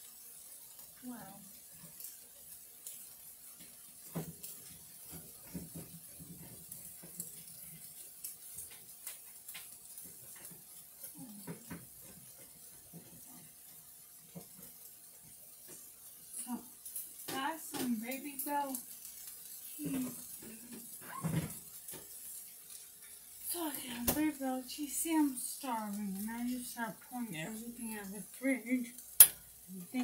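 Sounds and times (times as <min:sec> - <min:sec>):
food sizzling on a griddle: 0:00.0 - 0:30.0.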